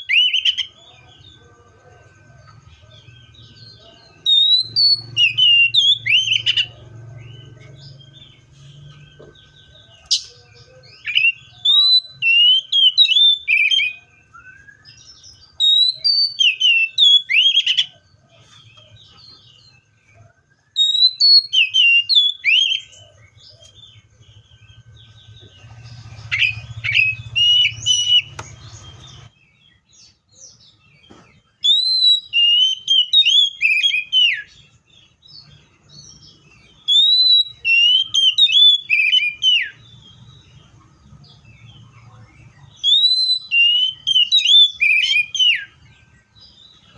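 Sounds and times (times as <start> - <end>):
bird singing whistled notes: 0.0 - 46.9.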